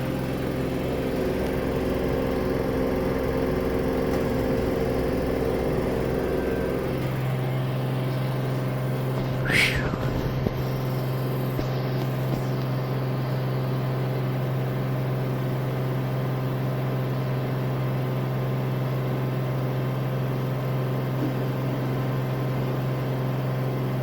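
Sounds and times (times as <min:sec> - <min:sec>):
washing machine spinning: 0:00.0 - 0:24.0.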